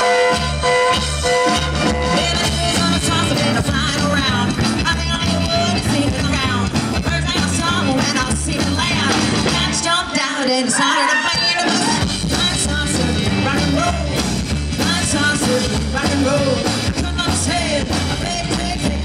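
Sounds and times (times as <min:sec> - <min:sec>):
rhythmic bass line: 0:00.0 - 0:10.1, 0:11.5 - 0:19.0
electric guitar: 0:00.0 - 0:10.2, 0:11.5 - 0:19.0
person singing: 0:01.8 - 0:19.0.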